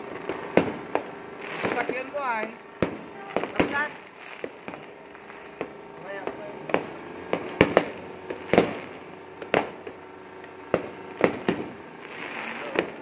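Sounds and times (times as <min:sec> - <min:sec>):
fireworks bangs: 0:00.0 - 0:13.0
steady background noise: 0:00.0 - 0:13.0.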